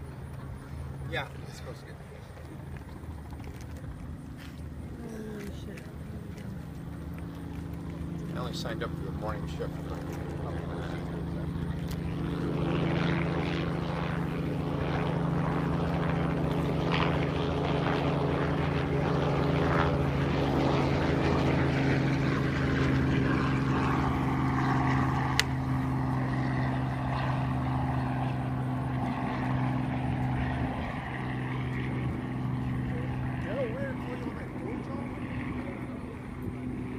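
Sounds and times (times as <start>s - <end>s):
propeller aircraft engines droning: 0.0s - 36.9s.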